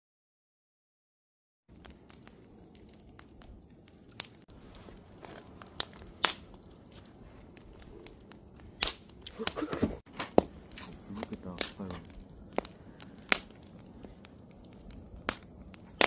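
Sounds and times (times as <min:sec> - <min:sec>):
campfire crackling and popping: 0:01.7 - 0:16.0.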